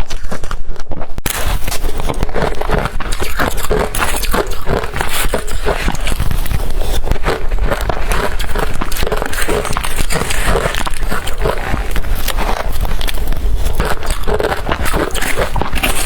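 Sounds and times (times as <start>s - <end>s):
crushed ice being chewed: 1.3s - 16.0s.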